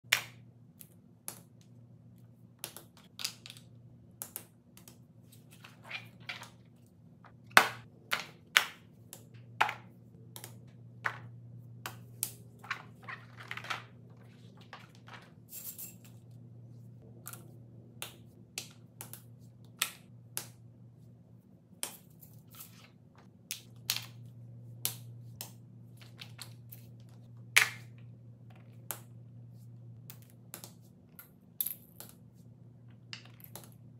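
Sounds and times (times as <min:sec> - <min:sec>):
faint steady low hum: 0:00.3 - 0:33.9.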